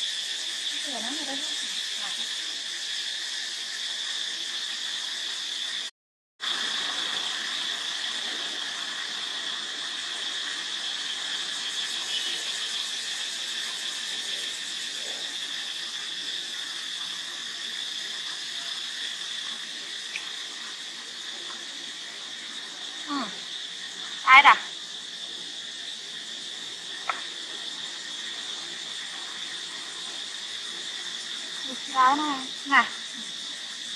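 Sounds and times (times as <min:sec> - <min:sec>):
insect chorus drone: 0:00.0 - 0:33.9.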